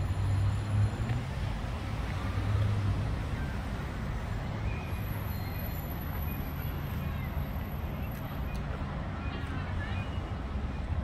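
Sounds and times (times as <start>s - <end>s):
distant road traffic rumble: 0.0s - 11.0s.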